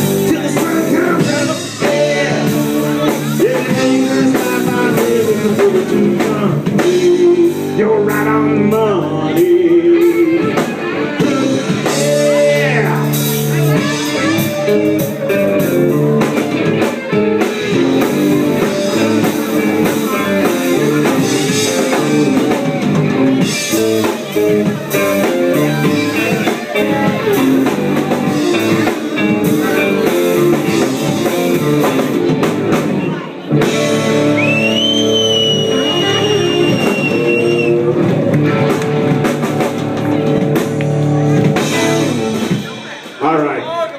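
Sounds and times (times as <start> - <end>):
electric guitar: 0.0 - 43.4
live country-rock band: 0.0 - 43.6
bass guitar: 0.0 - 43.7
drum kit: 0.0 - 43.8.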